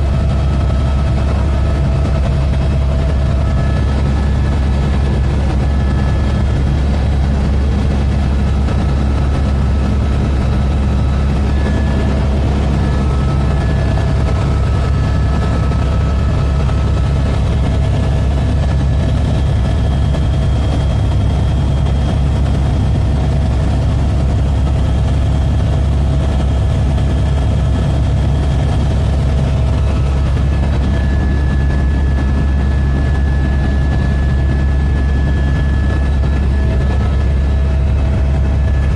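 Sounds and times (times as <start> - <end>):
helicopter turbine and rotor drone: 0.0 - 38.9.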